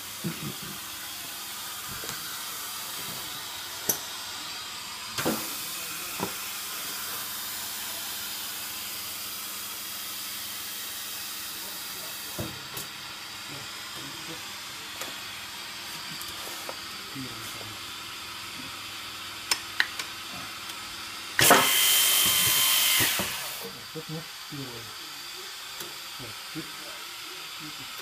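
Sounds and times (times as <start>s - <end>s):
boring machine hissing: 0.0s - 19.4s, 20.2s - 28.0s.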